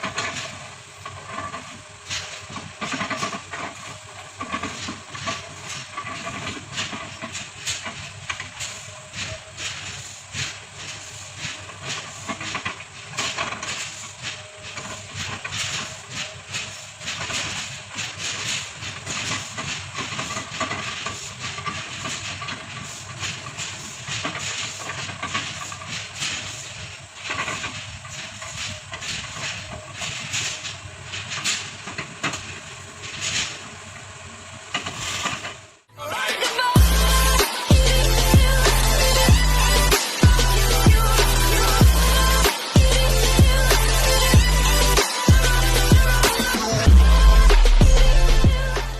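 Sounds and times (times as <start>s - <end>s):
excavator whining: 0.0s - 48.9s.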